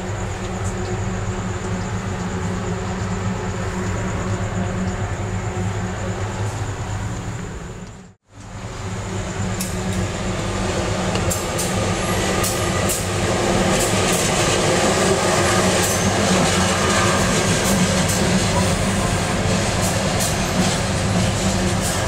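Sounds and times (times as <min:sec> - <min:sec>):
train carriage rumble and hum: 0:00.0 - 0:22.0.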